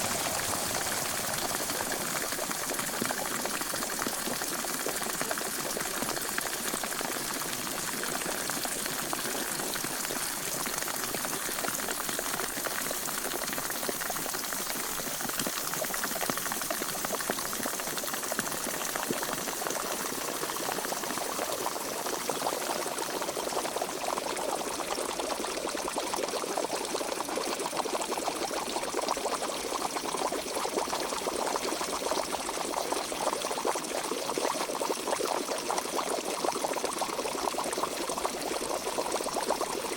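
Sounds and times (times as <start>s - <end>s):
water boiling in pot: 0.0s - 39.9s.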